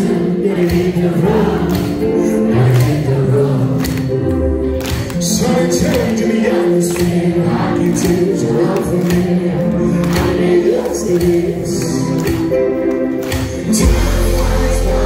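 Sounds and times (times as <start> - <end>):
person singing: 0.0 - 12.6, 13.4 - 15.0
live pop band: 0.0 - 15.0.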